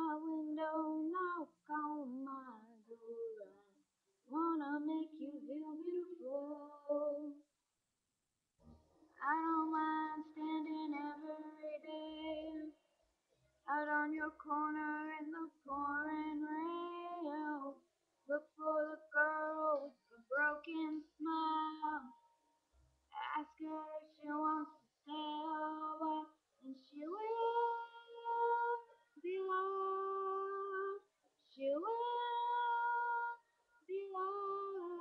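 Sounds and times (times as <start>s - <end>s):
person singing unaccompanied: 0.0s - 3.7s, 4.3s - 7.4s, 9.2s - 12.7s, 13.7s - 22.2s, 23.2s - 35.0s.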